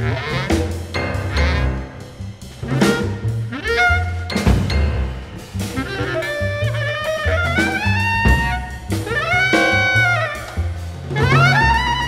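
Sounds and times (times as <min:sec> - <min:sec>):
jazz band playing: 0:00.0 - 0:12.0.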